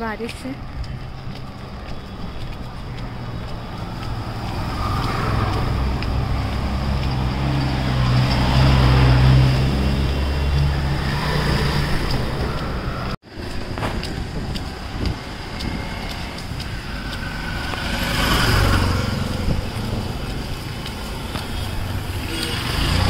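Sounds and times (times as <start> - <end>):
traffic on wet road: 0.0 - 23.0
vehicle engine humming: 0.0 - 23.0.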